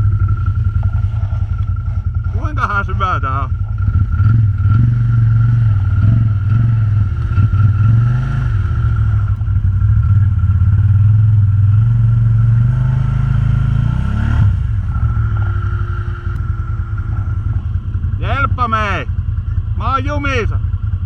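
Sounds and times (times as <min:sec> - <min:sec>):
atv engine revving under load: 0:00.0 - 0:21.0.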